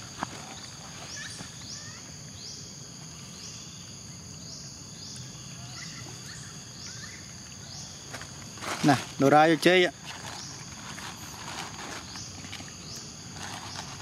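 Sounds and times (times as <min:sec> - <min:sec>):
insects buzzing: 0:00.0 - 0:14.0
rising buzzy insect call: 0:00.0 - 0:14.0.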